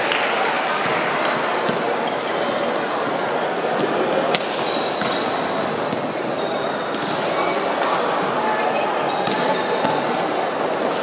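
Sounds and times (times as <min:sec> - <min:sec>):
many voices in a hall: 0:00.0 - 0:11.0.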